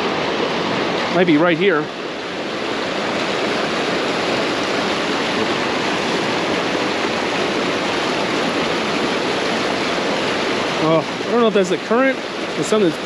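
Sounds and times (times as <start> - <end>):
creek rushing over its bed: 0.0 - 13.0.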